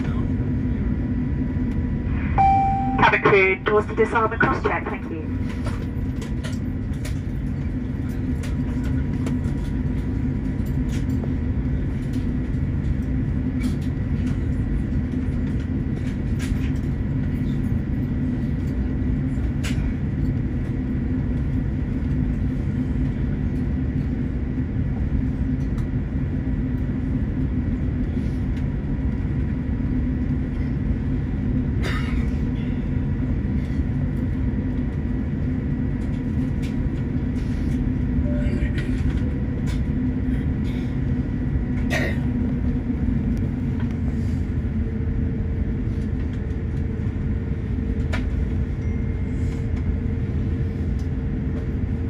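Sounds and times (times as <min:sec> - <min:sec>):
airliner cabin rumble: 0:00.0 - 0:52.0
faint steady whines: 0:00.0 - 0:52.0.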